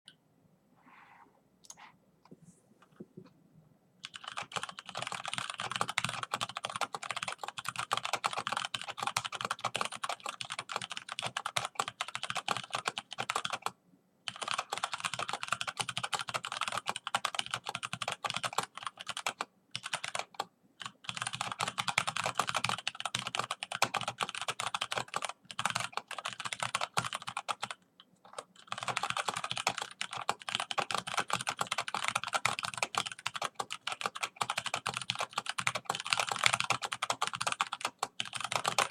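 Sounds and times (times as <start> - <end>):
fast keyboard typing: 4.0 - 38.9.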